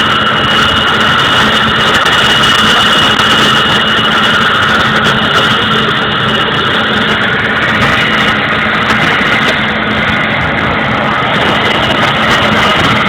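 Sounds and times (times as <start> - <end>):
high steady engine whine: 0.0 - 13.0
turboprop engine running: 0.0 - 13.0.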